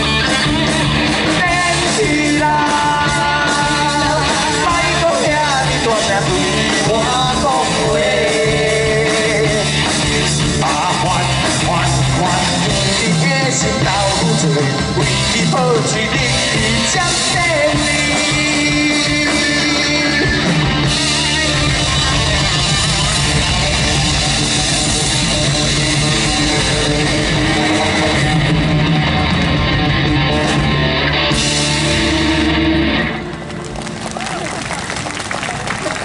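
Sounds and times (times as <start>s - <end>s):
electric guitar: 0.0s - 36.0s
live rock band playing: 0.0s - 36.0s.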